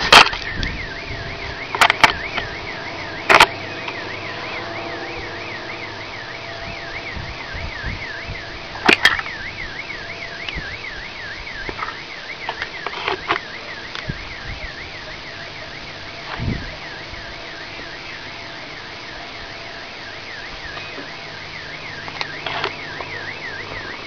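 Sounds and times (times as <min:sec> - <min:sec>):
car alarm warbling: 0:00.0 - 0:24.0
steady background drone: 0:00.0 - 0:24.0.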